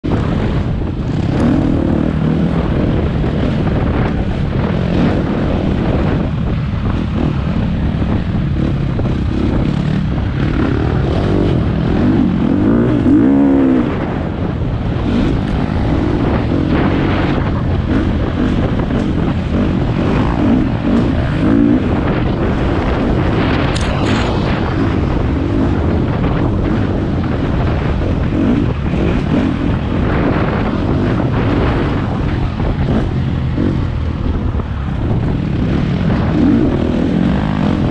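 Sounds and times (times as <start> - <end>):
dirt bike engine revving: 0.1 - 37.9.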